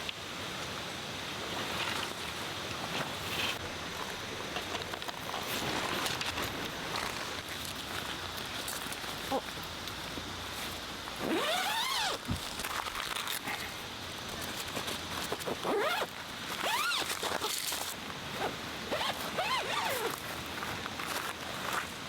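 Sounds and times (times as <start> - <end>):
steady hiss: 0.0 - 22.0
crunching footsteps: 3.5 - 22.0.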